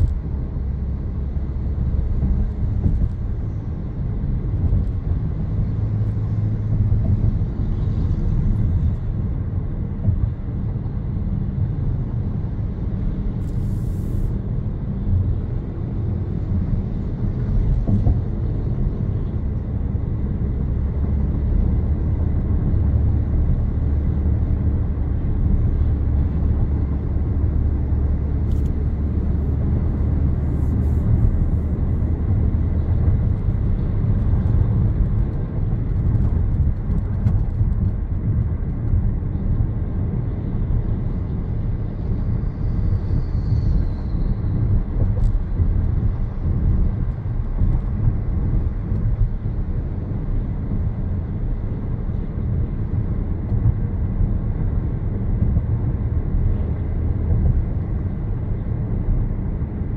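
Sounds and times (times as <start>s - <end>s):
car driving on road: 0.0s - 59.9s.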